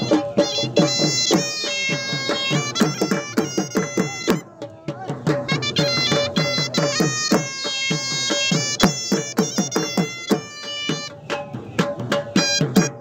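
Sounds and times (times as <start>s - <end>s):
fast steady drumbeats: 0.0s - 13.0s
shrill reedy shawm: 0.0s - 13.0s.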